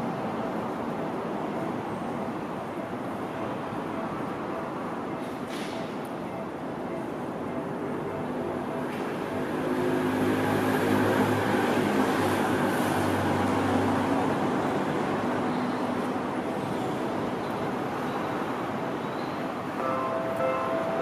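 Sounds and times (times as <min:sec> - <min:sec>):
train wheels on rail: 0:00.0 - 0:07.4, 0:08.0 - 0:21.0.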